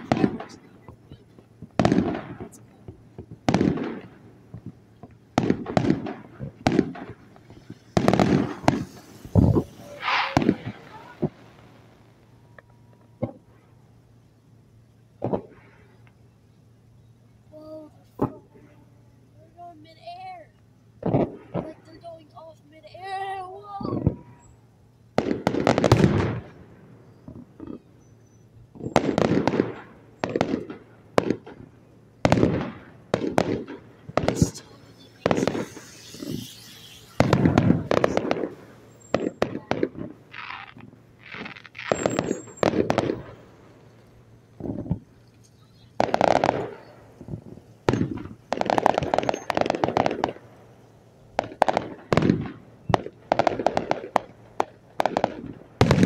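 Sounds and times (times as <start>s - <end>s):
deep firework boom: 0.0s - 13.6s, 23.8s - 27.8s, 28.7s - 56.0s
fireworks bangs: 0.0s - 56.0s.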